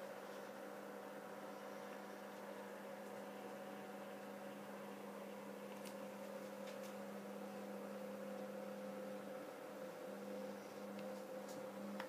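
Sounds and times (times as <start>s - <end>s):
electrical hum with high tone: 0.0s - 12.0s.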